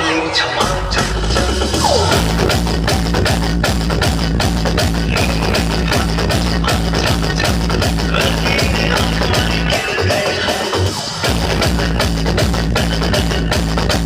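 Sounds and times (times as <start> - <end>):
loud music with heavy bass beat: 0.0 - 14.0.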